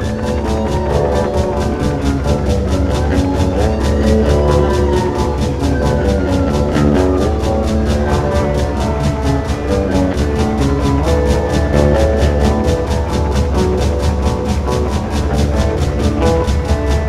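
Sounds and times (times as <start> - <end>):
song with fast beat: 0.0 - 17.0.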